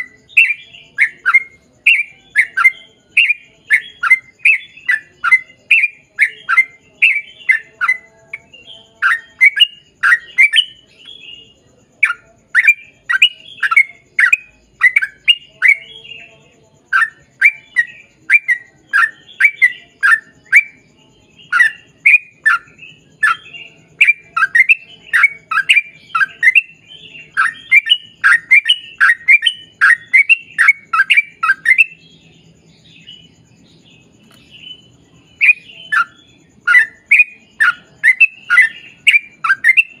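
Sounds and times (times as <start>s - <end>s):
bulbul singing chattering phrases: 0.0s - 40.0s.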